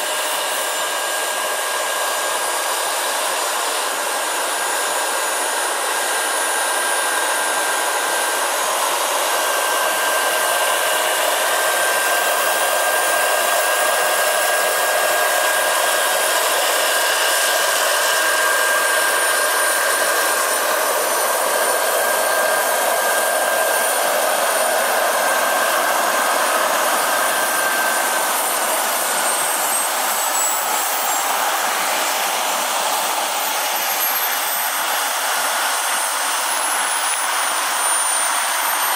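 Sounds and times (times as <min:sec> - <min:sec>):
model helicopter rotors hissing: 0:00.0 - 0:38.9
turbine whine dropping in pitch: 0:00.0 - 0:38.9.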